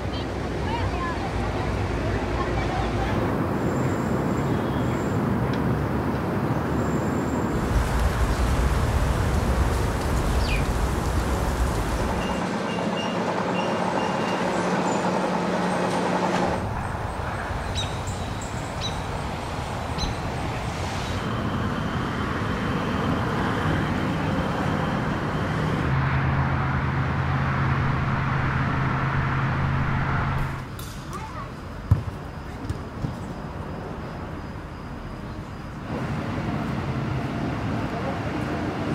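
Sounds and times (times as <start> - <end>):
traffic noise: 0.0 - 38.9
vehicle engines passing and idling: 0.0 - 38.9.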